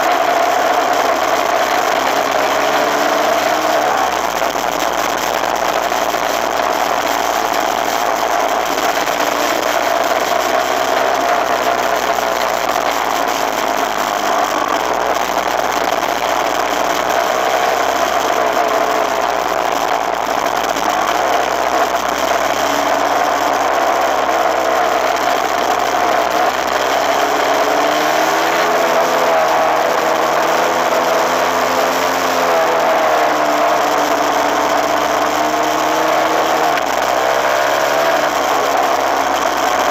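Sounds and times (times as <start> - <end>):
two-stroke dirt bike engine: 0.0 - 39.9.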